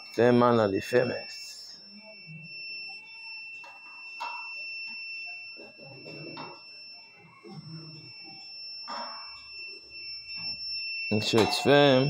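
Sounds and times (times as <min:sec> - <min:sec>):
high-pitched electronic tone: 0:00.0 - 0:12.0.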